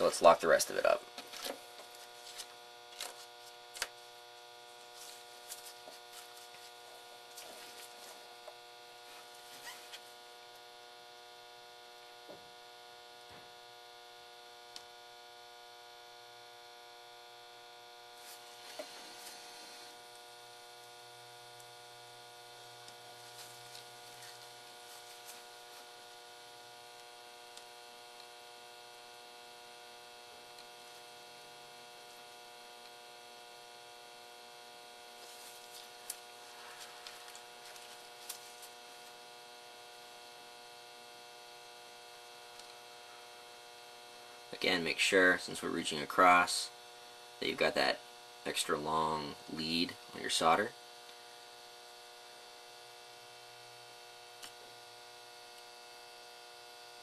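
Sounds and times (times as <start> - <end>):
electrical hum: 0.0 - 57.0.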